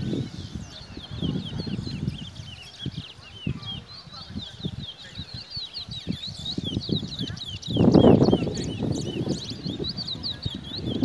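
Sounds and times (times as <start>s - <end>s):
bird chirping: 0.0s - 11.0s
murmuring voices: 0.0s - 11.0s.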